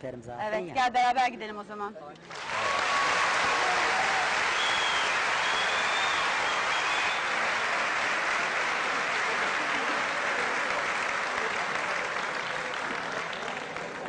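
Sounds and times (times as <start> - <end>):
audience applauding: 2.2 - 14.0.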